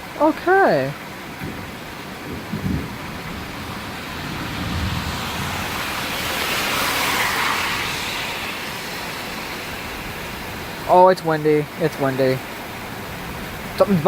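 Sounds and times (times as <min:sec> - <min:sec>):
gusting wind: 0:00.0 - 0:14.0
heavy rain: 0:00.0 - 0:14.0.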